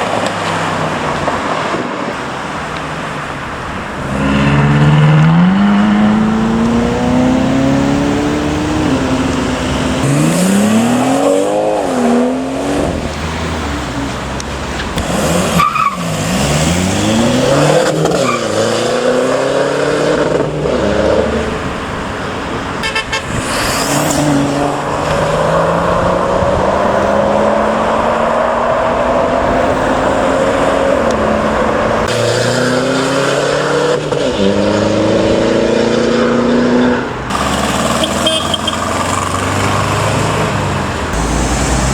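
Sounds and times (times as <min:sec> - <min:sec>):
cars accelerating past: 0:00.0 - 0:41.9.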